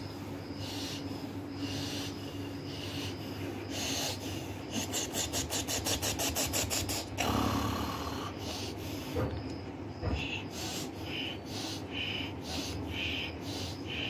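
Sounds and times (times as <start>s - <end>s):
man breathing heavily: 0.0s - 9.3s, 9.9s - 14.0s.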